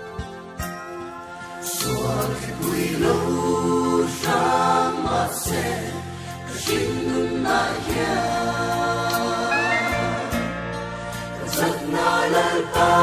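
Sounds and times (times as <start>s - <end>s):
mixed choir singing gospel: 1.6s - 13.0s.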